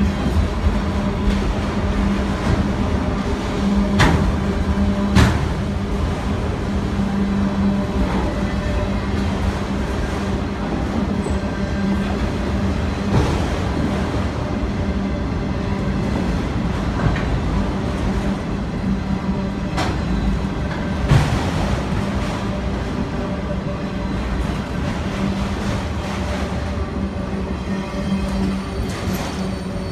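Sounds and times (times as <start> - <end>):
train rumbling by: 0.0 - 29.9.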